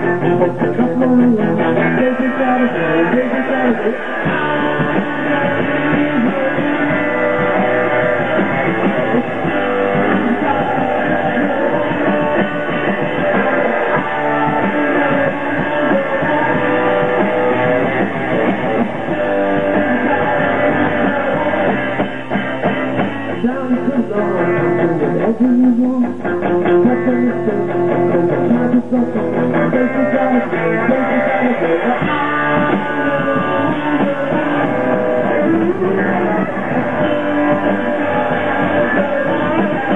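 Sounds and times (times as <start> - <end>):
live rock band: 0.0 - 39.9
person singing: 0.0 - 39.9.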